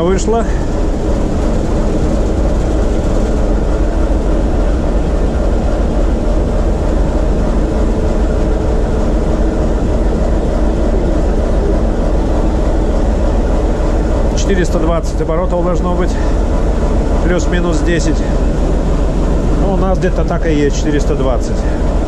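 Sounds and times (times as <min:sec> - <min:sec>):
diesel locomotive engine rumbling: 0:00.0 - 0:22.0.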